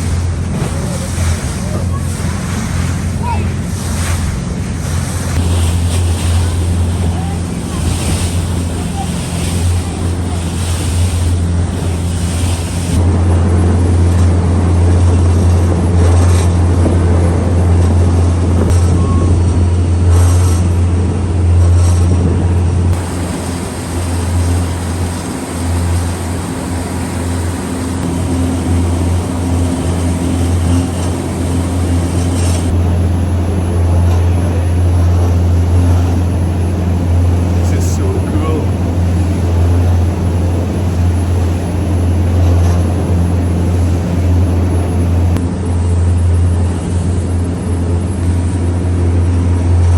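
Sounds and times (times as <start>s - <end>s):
ferry engines droning: 0.0s - 49.9s
water rushing: 0.0s - 49.9s
wind: 0.0s - 49.9s.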